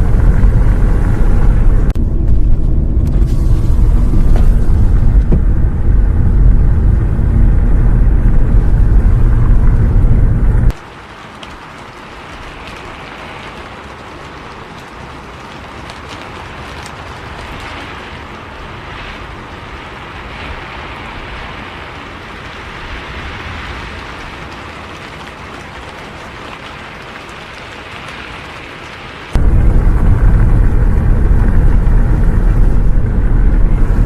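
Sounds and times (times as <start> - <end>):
bus engine and tyres rumbling: 0.0 - 34.0
rain on bus windows: 0.0 - 34.0.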